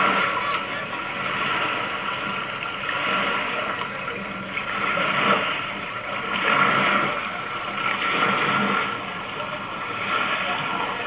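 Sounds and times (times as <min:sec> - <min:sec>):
water lapping at shoreline: 0:00.0 - 0:11.0.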